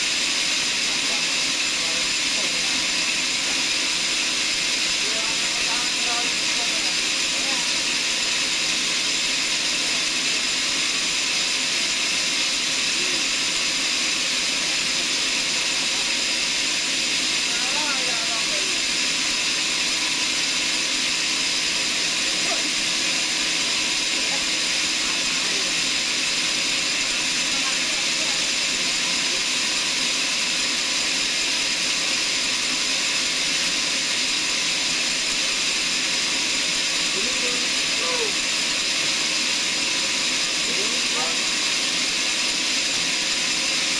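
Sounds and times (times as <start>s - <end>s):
saw running with hiss: 0.0s - 43.9s.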